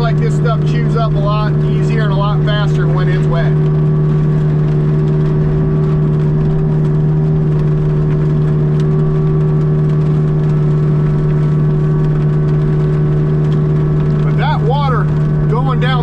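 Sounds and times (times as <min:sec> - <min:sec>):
excavator mulcher running: 0:00.0 - 0:16.0.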